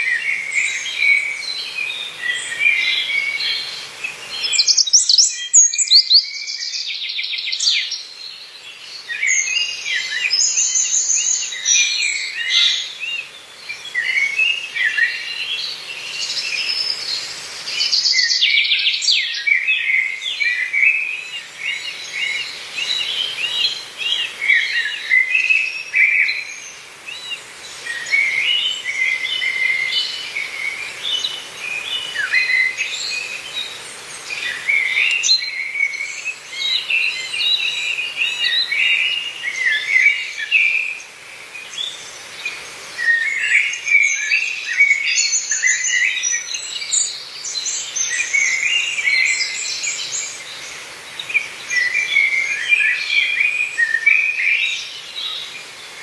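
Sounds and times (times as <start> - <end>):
faint steady hiss: 0.0 - 56.0
songbirds chirping and warbling: 0.0 - 56.0.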